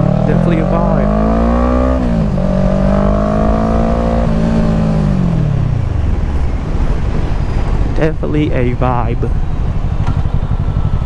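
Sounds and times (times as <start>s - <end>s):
low wind rumble: 0.0s - 11.0s
motorcycle engine: 0.0s - 11.0s.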